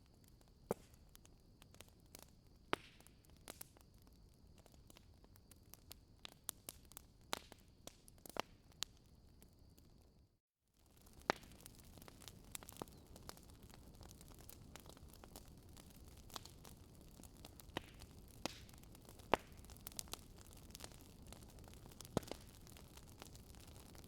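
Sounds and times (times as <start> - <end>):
wood fire crackling: 0.0 - 10.0, 10.8 - 24.0.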